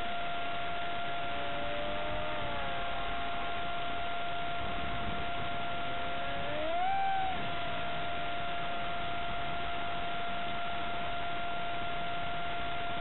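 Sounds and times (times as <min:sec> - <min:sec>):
electric fan motor whining: 0:00.0 - 0:13.0
high hum: 0:00.0 - 0:13.0.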